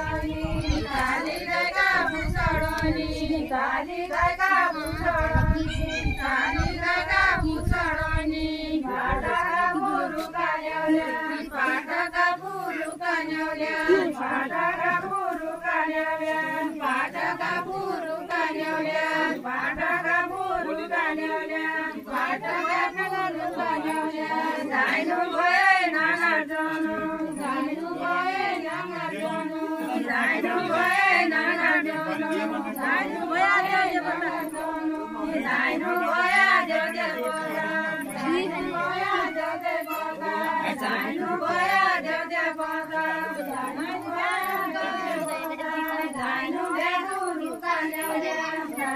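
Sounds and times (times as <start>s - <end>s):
women singing unaccompanied: 0.0s - 48.9s.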